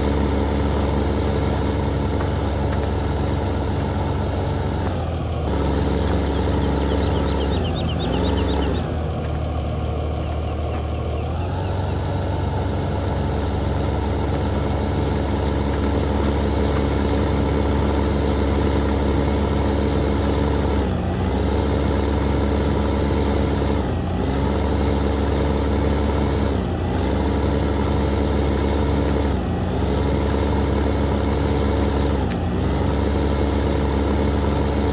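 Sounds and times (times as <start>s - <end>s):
tractor diesel engine running hard: 0.0s - 34.9s.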